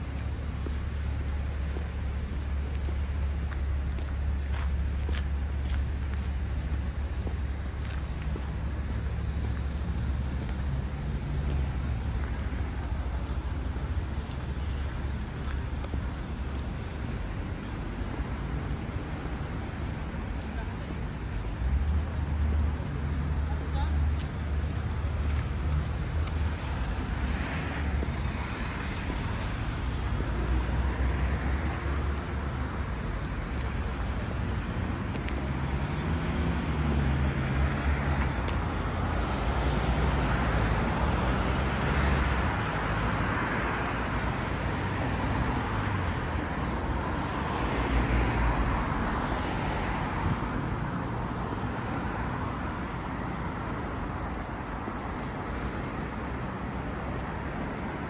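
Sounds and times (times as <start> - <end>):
vehicles passing: 0.0 - 58.0.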